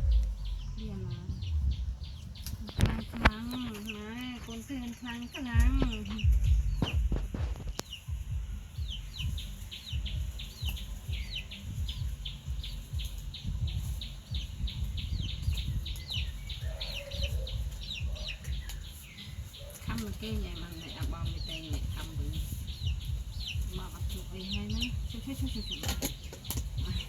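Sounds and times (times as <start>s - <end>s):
birds chirping: 0.0s - 27.0s
low rumbling noise: 0.0s - 27.0s.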